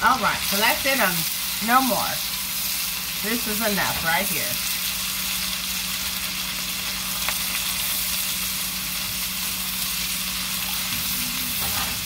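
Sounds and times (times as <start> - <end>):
squash sizzling in a pan: 0.0 - 12.0.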